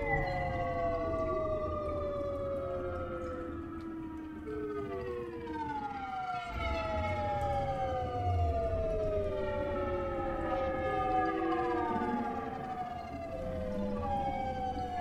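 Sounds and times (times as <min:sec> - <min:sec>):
sliding whistle-like tones: 0:00.0 - 0:15.0.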